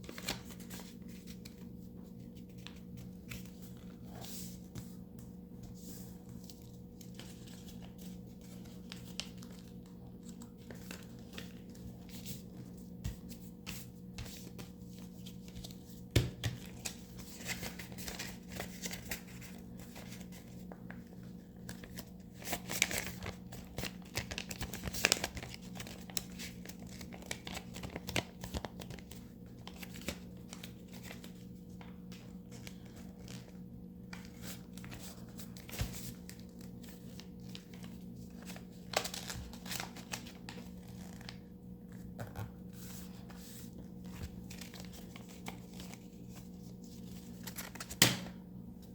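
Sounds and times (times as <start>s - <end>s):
paper crinkling and rustling: 0.0s - 48.2s
low electrical hum: 0.0s - 48.9s.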